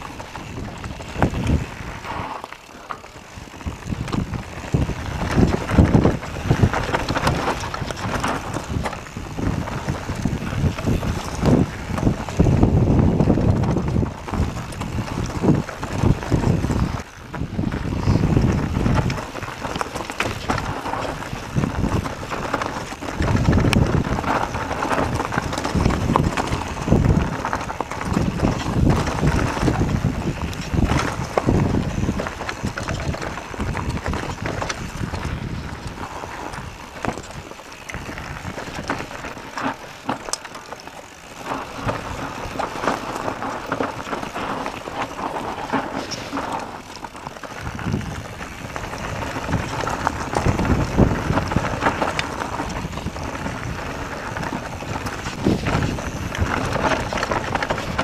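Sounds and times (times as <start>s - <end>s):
bike knocking and rattling: 0.0s - 58.0s
tyres on dirt: 0.0s - 58.0s
wind buffeting microphone: 0.0s - 58.0s.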